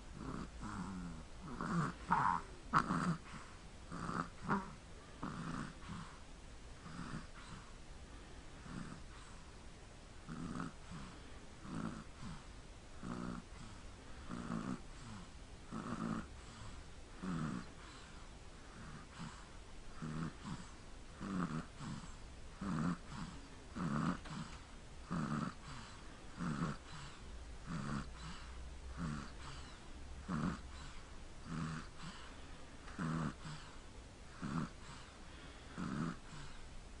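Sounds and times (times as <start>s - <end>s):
person snoring: 0.2s - 6.2s, 6.8s - 7.6s, 8.6s - 9.4s, 10.3s - 32.3s, 32.9s - 36.6s.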